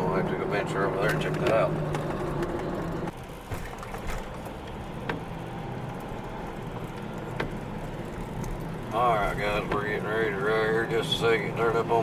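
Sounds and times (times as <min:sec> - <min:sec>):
road and engine noise in car: 0:00.0 - 0:12.0.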